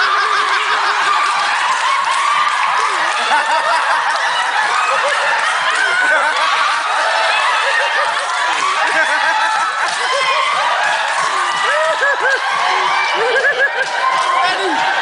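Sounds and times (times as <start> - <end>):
audience laughing: 0.0 - 15.0.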